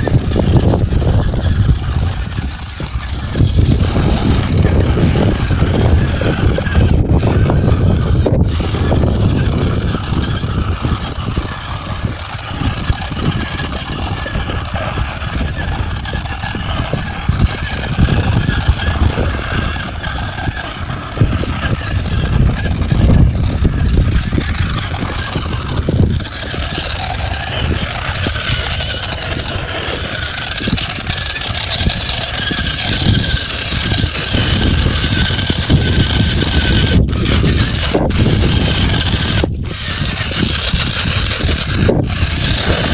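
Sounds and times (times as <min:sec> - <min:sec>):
heavy uneven low rumble: 0:00.0 - 0:42.9
model truck motor whine: 0:00.0 - 0:42.9.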